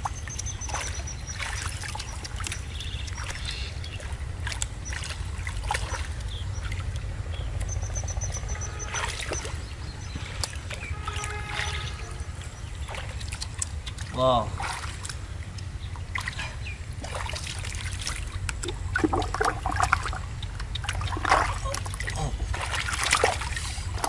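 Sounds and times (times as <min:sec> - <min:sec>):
steady low rumble: 0:00.0 - 0:24.0
water splashing and sloshing: 0:00.0 - 0:24.0.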